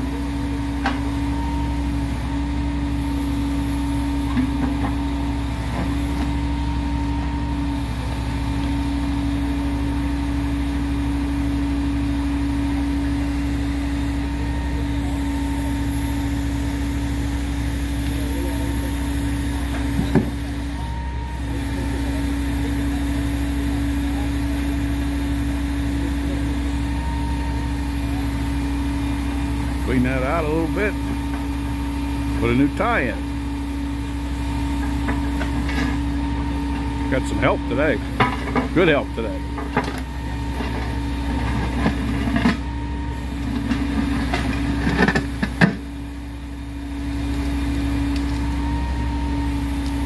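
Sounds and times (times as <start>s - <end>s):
heavy engine humming: 0.0s - 50.0s.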